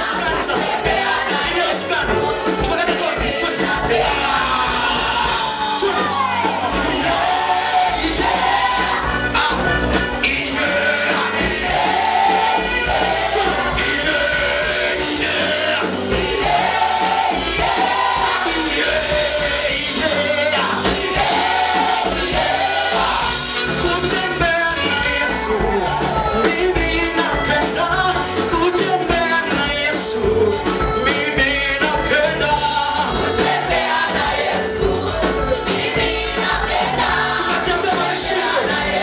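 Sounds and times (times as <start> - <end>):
group singing gospel music: 0.0 - 39.0.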